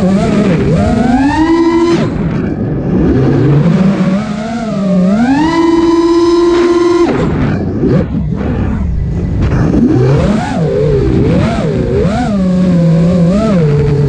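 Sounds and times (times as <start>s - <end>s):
drone motor whine: 0.0s - 14.0s.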